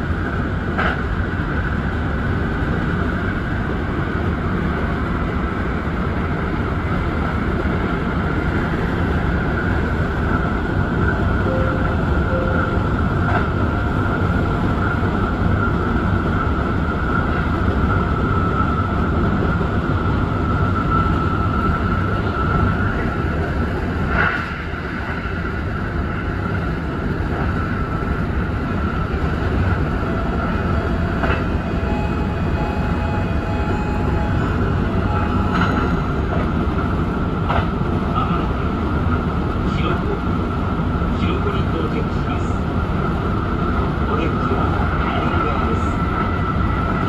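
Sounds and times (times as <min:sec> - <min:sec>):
constant train whine: 0:00.0 - 0:47.0
train wheels rumbling on rail: 0:00.0 - 0:47.0.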